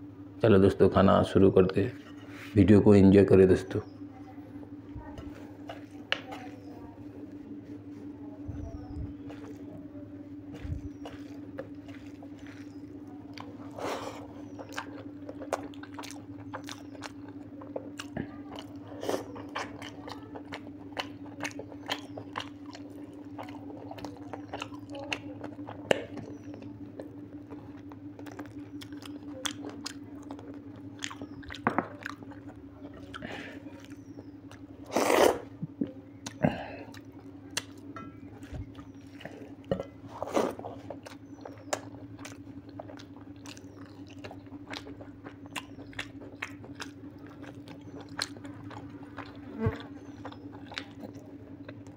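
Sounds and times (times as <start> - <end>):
steady low hum: 0.0 - 51.9
chewing and biting: 8.8 - 51.9.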